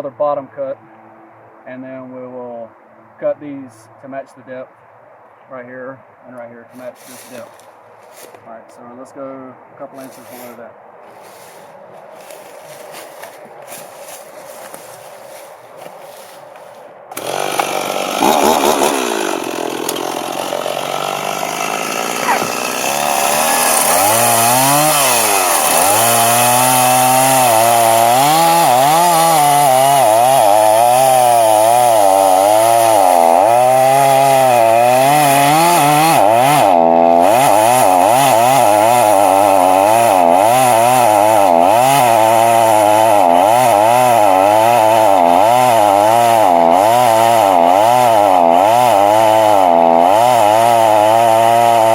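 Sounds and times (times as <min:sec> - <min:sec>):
chainsaw cutting wood: 0:06.8 - 0:08.4, 0:10.0 - 0:51.9.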